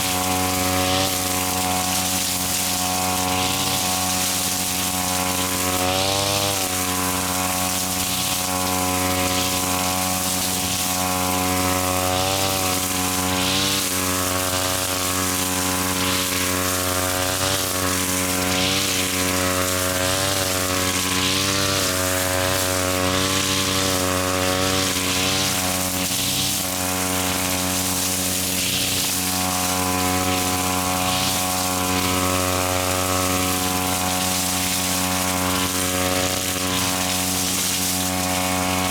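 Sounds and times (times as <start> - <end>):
grass cutter engine running: 0.0 - 38.9.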